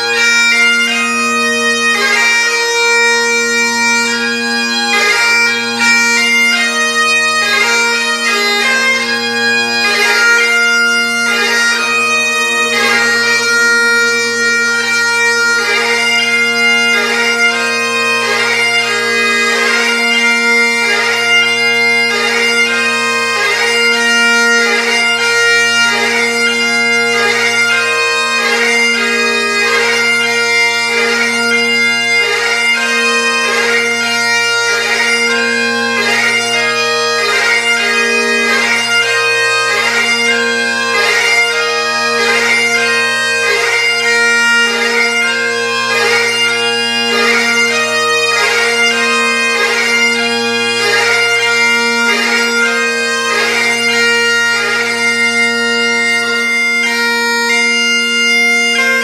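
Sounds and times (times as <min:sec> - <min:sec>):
bagpipes playing a lament: 0:00.0 - 0:59.0.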